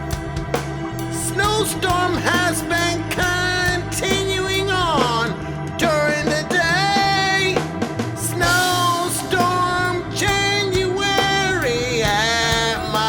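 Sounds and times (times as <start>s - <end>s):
drums and bass beat: 0.0s - 13.0s
person singing: 1.1s - 7.6s, 8.2s - 13.0s.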